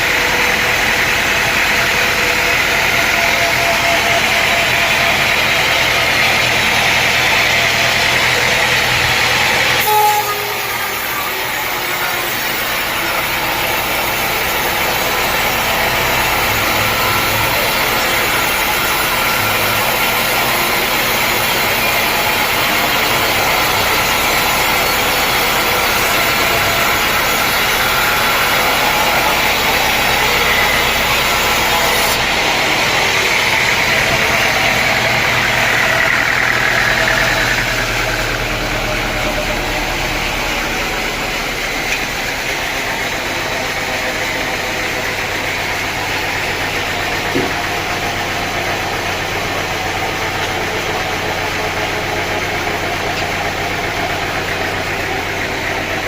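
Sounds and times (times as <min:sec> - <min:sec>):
engine running: 0:00.0 - 0:56.0
high engine whine: 0:00.0 - 0:56.0.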